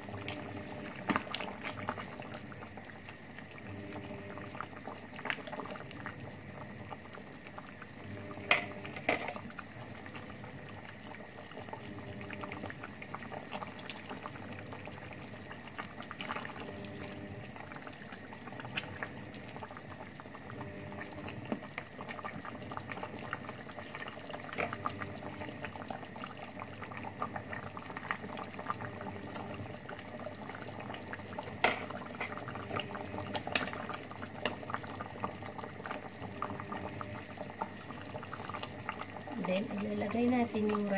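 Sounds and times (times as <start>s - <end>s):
stew bubbling in a pot: 0.0s - 40.9s.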